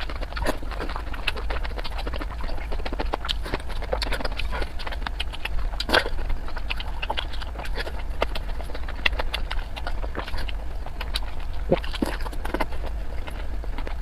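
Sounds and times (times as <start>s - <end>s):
steady low hum: 0.0s - 14.0s
wet chewing and smacking: 0.0s - 14.0s.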